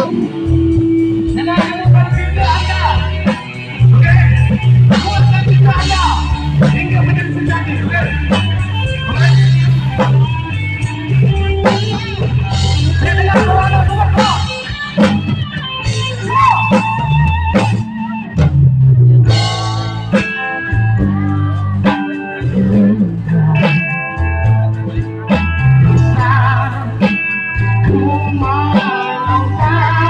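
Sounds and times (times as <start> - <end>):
bass guitar: 0.0 - 30.0
drums: 0.0 - 30.0
electric guitar lead: 0.0 - 30.0.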